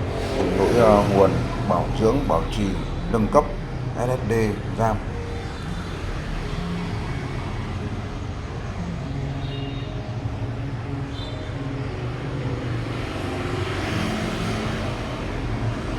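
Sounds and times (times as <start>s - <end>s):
street traffic rumble: 0.0s - 15.9s.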